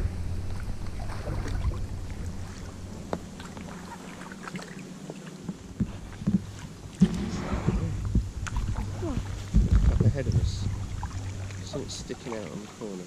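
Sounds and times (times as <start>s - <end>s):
paddle blades dipping and dripping: 0.0s - 7.2s, 8.0s - 13.0s
low steady rumble: 0.0s - 13.0s.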